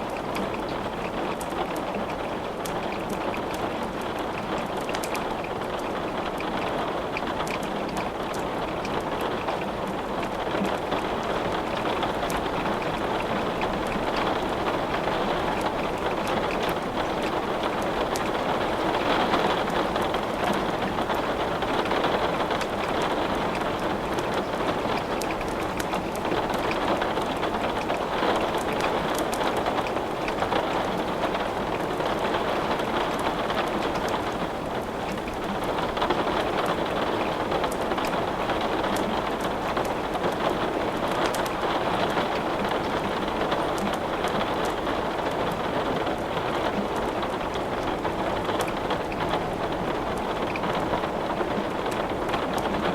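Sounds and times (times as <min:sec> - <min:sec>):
steady rain: 0:00.0 - 0:52.9.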